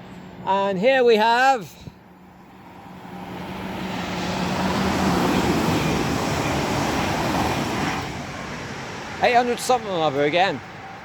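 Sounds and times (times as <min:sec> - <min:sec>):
train rushing past: 0:02.1 - 0:11.0.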